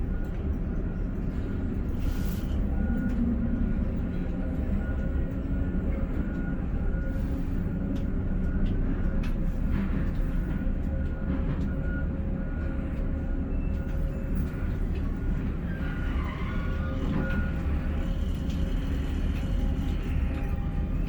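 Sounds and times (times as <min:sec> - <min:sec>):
crane machinery rumbling: 0:00.0 - 0:21.0.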